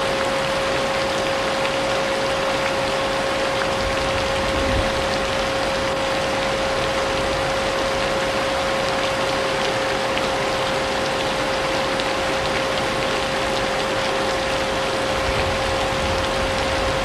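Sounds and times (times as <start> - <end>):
rain hissing: 2.8 - 17.0.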